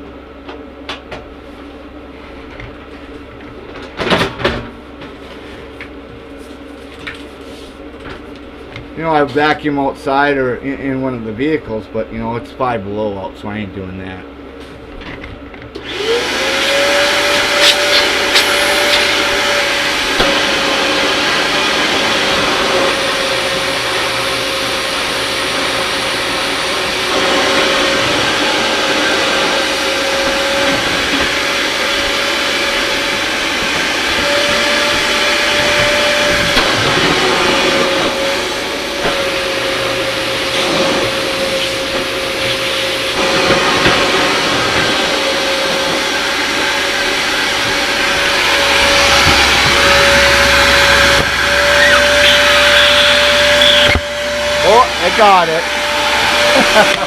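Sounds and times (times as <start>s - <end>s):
shop vacuum motor whine: 0.0s - 57.0s.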